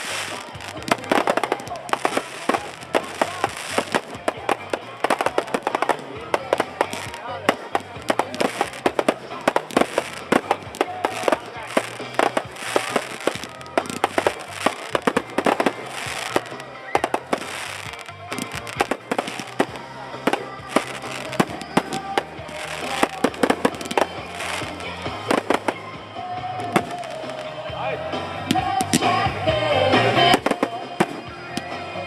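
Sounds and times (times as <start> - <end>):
fireworks bursting with sharp bangs: 0.0 - 32.0
fireworks crackling: 0.0 - 32.0.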